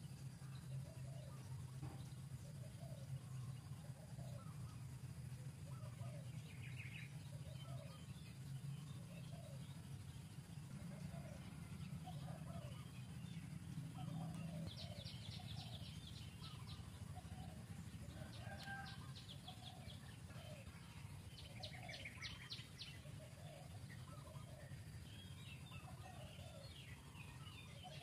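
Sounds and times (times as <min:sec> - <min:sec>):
birds calling: 0:00.0 - 0:28.0
low background noise: 0:00.0 - 0:28.0.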